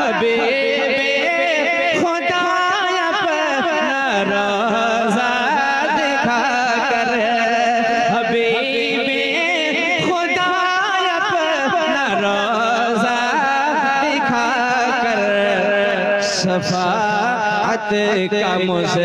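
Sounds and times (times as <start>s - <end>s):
man singing through microphone: 0.0s - 19.0s.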